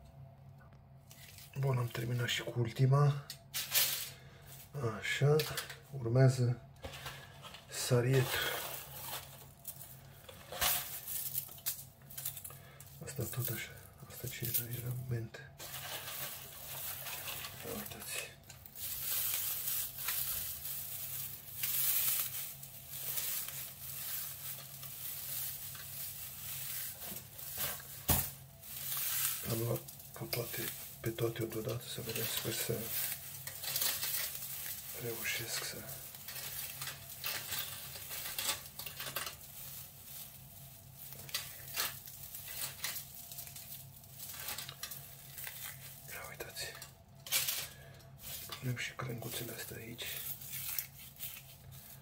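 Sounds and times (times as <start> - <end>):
dried herbs crackling and rustling: 0.9 - 52.0.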